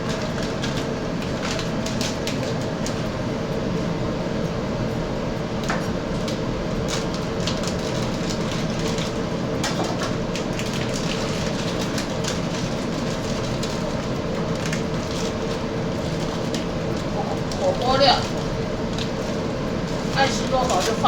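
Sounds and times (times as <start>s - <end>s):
pot crackling and popping: 0.0s - 3.3s, 5.4s - 21.0s
kitchen hum with faint tone: 0.0s - 21.0s.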